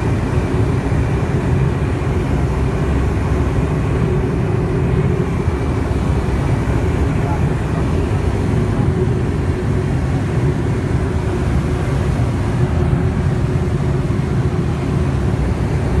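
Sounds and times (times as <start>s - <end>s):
faint constant hum: 0.0s - 16.0s
propeller engine drone: 0.0s - 16.0s.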